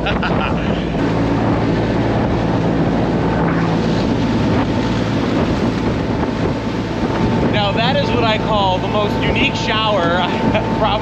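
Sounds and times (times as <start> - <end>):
boat engine hum: 0.0 - 11.0
water churning in wake: 0.0 - 11.0
wind buffeting microphone: 0.0 - 11.0.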